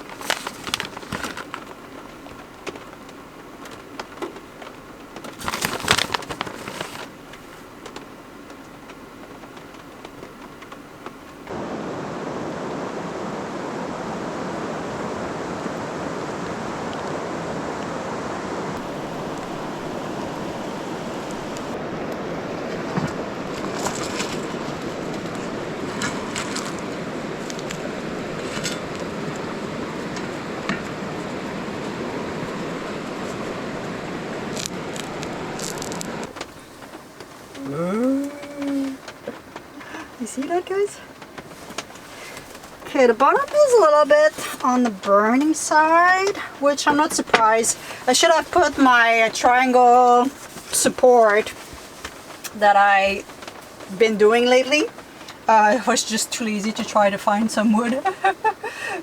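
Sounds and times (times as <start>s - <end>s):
campfire crackling and popping: 0.0s - 11.6s, 18.8s - 56.2s
rain falling: 0.0s - 59.0s.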